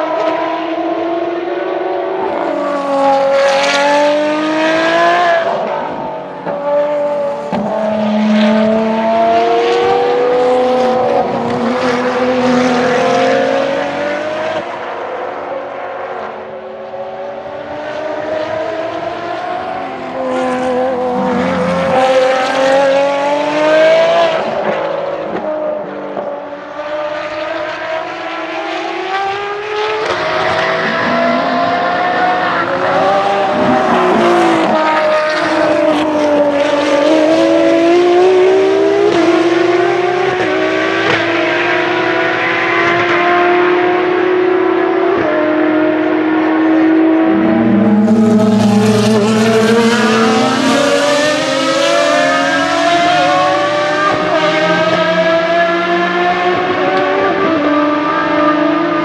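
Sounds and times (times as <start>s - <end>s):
race car engines at high revs: 0.0s - 59.0s.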